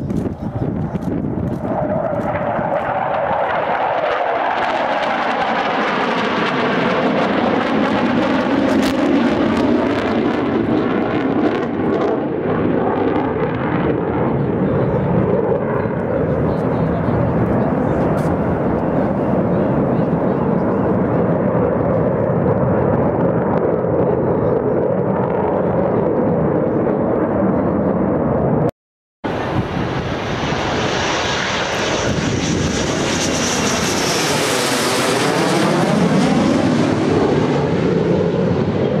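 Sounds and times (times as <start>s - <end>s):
jet engine rumble: 0.0s - 28.7s, 29.3s - 39.0s
jet passing overhead with whoosh: 0.0s - 28.7s, 29.3s - 39.0s.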